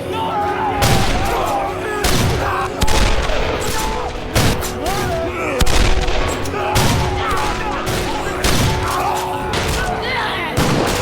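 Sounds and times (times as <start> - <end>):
film music score: 0.0 - 11.0
gunshots: 0.8 - 11.0.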